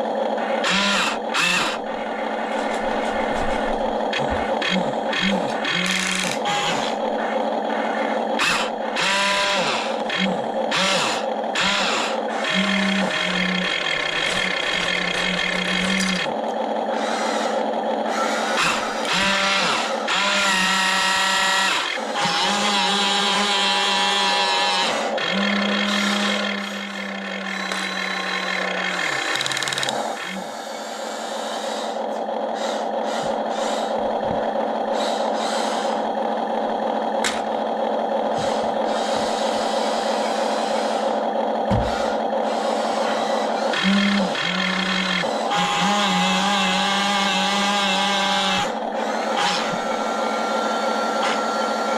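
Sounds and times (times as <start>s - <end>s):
steady mechanical hum: 0.0s - 51.9s
toy electric motors whining: 0.0s - 51.9s.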